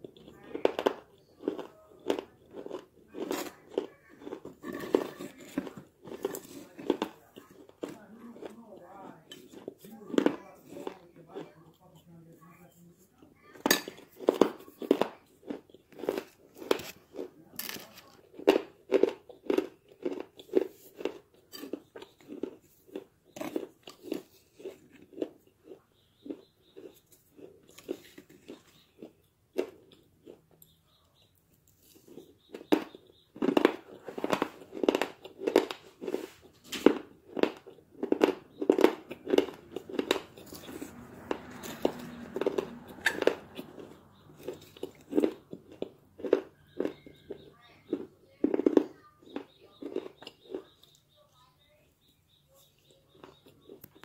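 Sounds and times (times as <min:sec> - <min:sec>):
crunchy chewing: 0:00.0 - 0:54.0.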